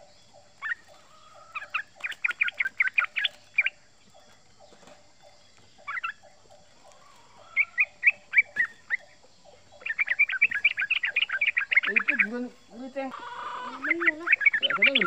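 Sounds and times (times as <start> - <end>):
bulbul chirping: 0.0 - 15.0.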